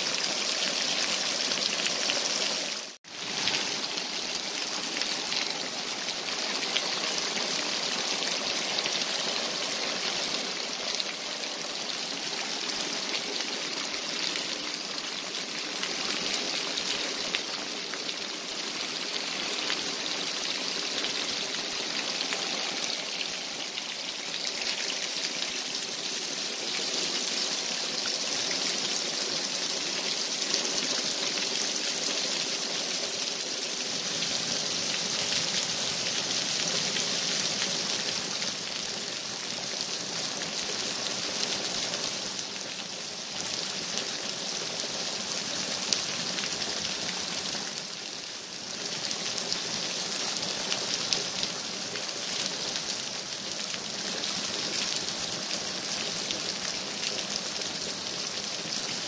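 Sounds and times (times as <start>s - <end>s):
heavy rain on concrete: 0.0s - 59.0s.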